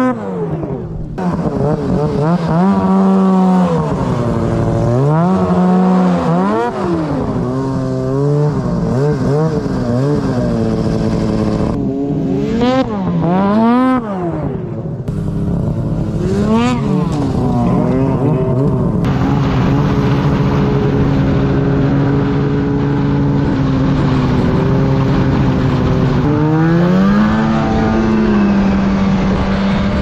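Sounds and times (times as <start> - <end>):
snowmobile engine revving: 0.0 - 30.0.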